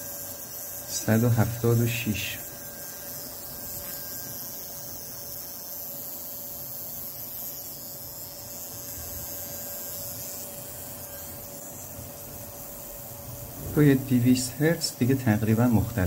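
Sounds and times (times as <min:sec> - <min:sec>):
fuel injector solenoid buzzing: 0:00.0 - 0:16.0.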